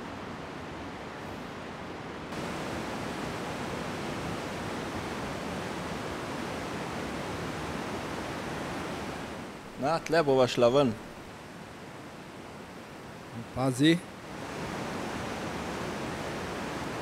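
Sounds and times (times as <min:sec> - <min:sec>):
underground river rushing: 0:00.0 - 0:17.0.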